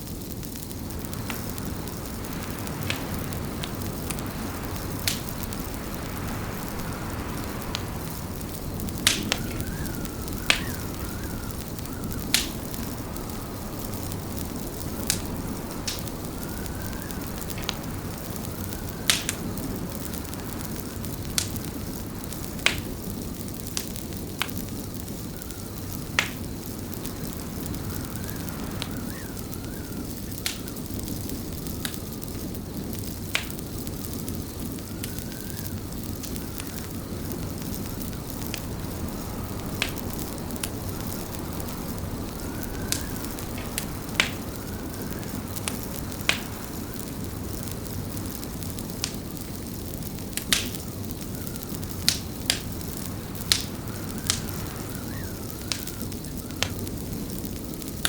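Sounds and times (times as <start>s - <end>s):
fireplace crackling and popping: 0.0s - 58.0s
low rumble of burning wood: 0.0s - 58.0s.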